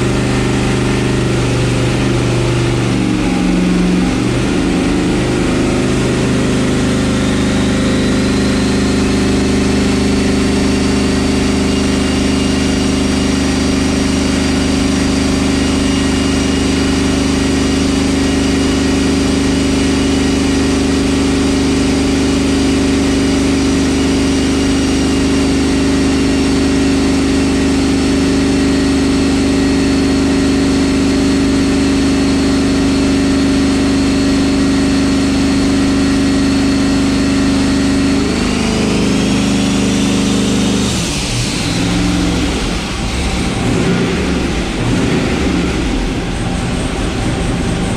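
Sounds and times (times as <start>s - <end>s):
engine droning with high whine: 0.0s - 47.9s.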